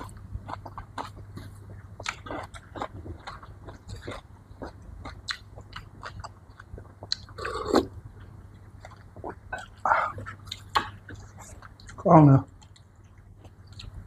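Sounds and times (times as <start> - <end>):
chewing and crunching food: 0.0 - 14.0.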